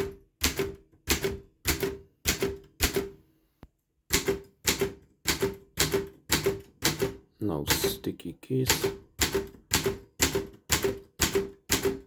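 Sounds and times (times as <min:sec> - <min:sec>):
manual typewriter keystrokes: 0:00.0 - 0:03.2, 0:04.1 - 0:08.0, 0:08.7 - 0:12.0.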